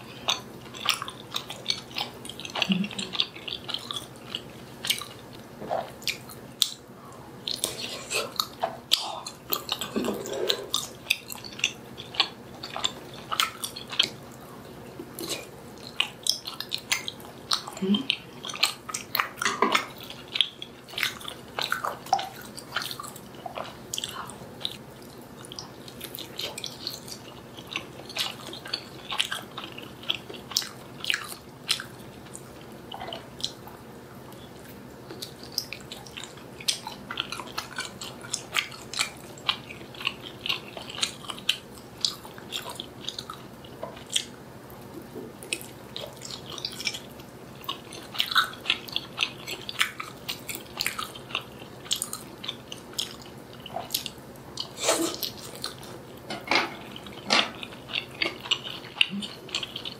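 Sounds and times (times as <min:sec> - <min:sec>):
chewing and biting: 0:00.1 - 0:06.8, 0:07.4 - 0:59.9.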